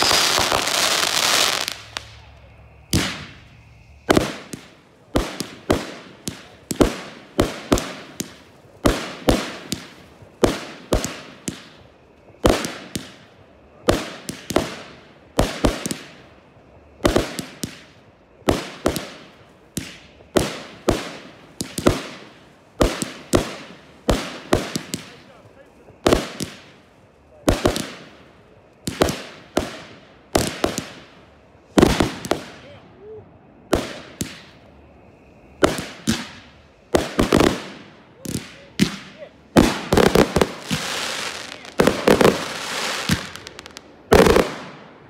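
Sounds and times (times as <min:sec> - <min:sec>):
fireworks banging: 0:00.0 - 0:16.2, 0:17.0 - 0:28.2, 0:28.8 - 0:32.8, 0:33.7 - 0:34.7, 0:35.6 - 0:45.0.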